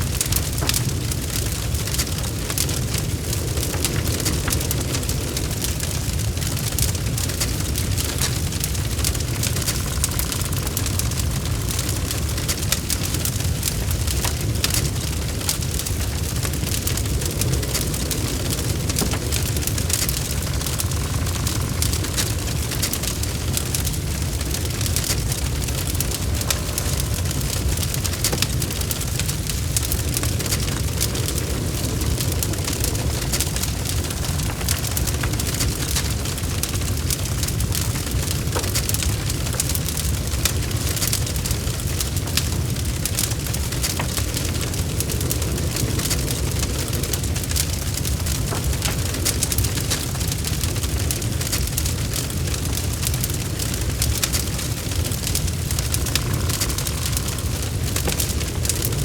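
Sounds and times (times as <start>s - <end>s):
logs crackling and popping: 0.0s - 59.0s
low rumble of flames: 0.0s - 59.0s.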